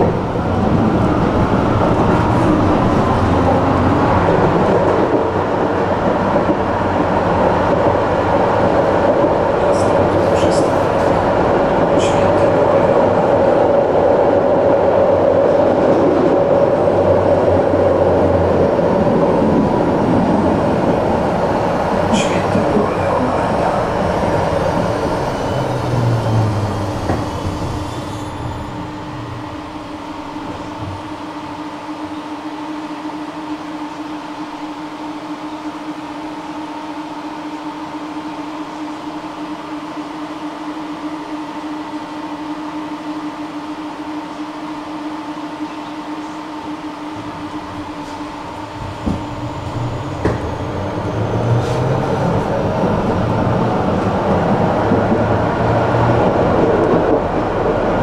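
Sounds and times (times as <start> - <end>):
electric tram running rumble: 0.0 - 58.0.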